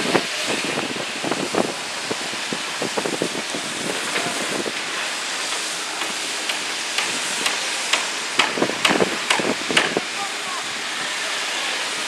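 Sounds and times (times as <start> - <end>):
power trowels running: 0.0 - 12.0.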